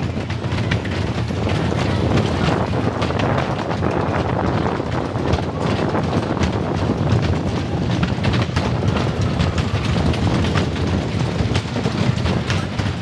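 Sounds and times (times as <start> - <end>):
roller coaster rumbling and clattering: 0.0 - 13.0
wind buffeting microphone: 0.0 - 13.0.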